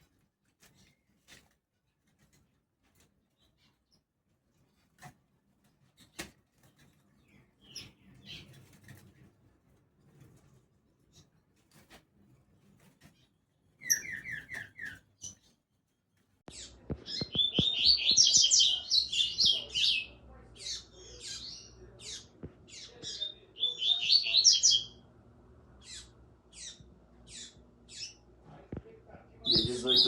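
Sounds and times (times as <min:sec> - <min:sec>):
small birds singing: 0:02.1 - 0:30.0.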